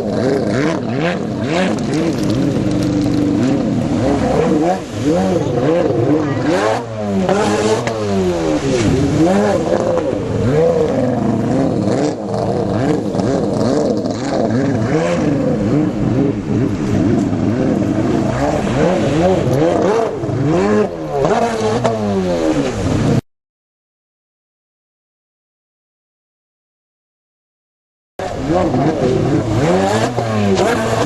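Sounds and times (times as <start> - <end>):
jet ski engine revving: 0.0 - 23.2, 28.2 - 31.0.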